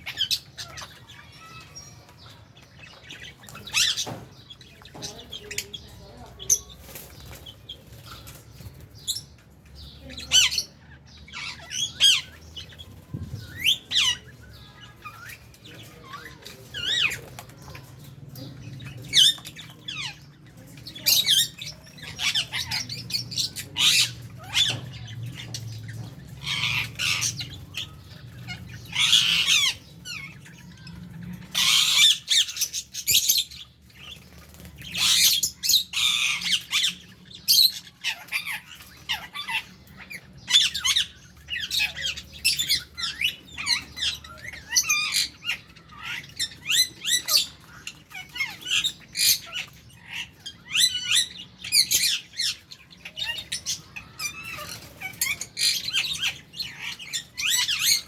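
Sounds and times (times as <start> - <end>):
birds chirping: 0.0 - 58.0
birds squawking: 0.0 - 58.0.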